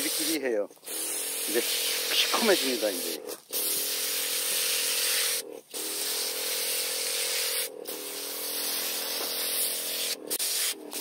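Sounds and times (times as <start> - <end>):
liquid hissing from sprayer nozzle: 0.0 - 11.0
sprayer humming: 0.0 - 11.0.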